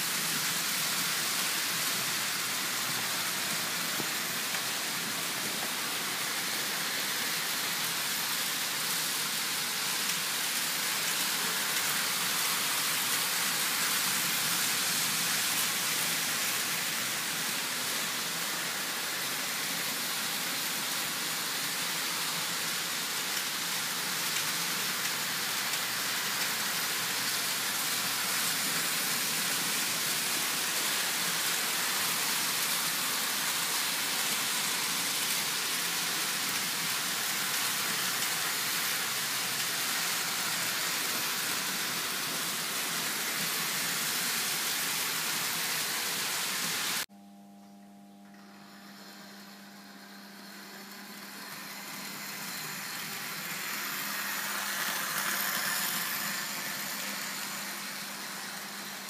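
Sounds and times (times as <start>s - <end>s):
model trains whirring on metal track: 0.0s - 47.0s, 48.7s - 59.0s.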